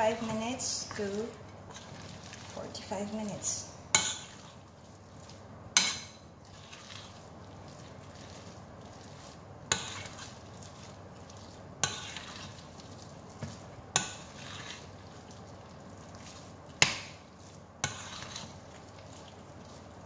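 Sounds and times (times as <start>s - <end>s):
scraping through batter: 0.0s - 20.0s.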